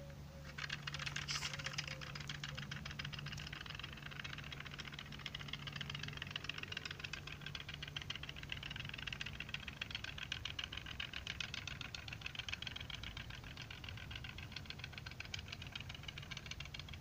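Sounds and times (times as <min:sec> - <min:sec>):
rapid wooden clicking of toys: 0:00.0 - 0:17.0.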